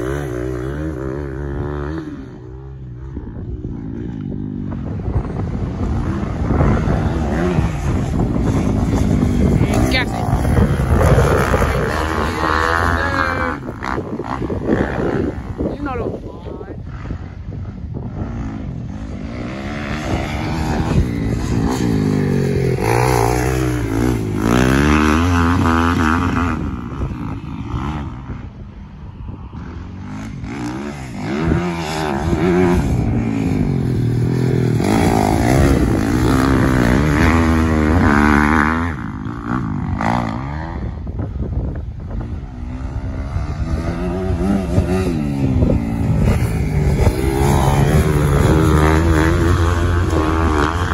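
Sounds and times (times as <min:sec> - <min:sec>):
dirt bike engine revving: 0:00.0 - 0:28.5, 0:29.5 - 0:41.5, 0:42.1 - 0:50.9.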